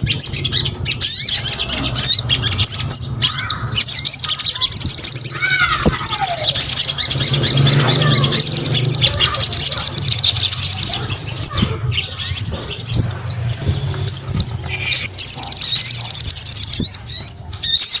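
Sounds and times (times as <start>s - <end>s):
songbird twittering: 0.0s - 18.0s.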